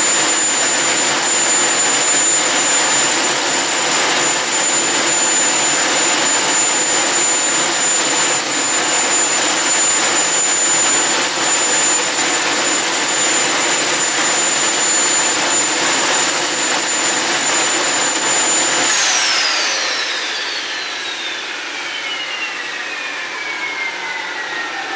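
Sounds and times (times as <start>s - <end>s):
turbine whine: 0.0s - 24.9s
turbojet engine roar: 0.0s - 24.9s.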